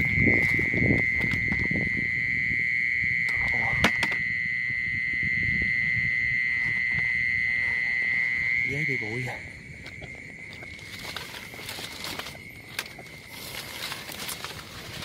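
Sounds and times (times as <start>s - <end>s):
insect trilling: 0.0s - 15.0s.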